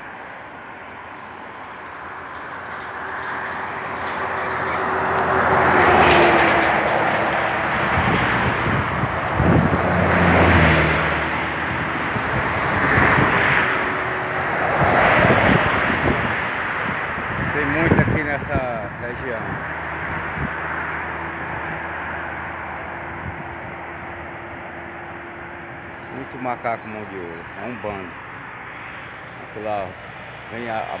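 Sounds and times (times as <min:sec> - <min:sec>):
vehicles passing: 0:00.0 - 0:31.0.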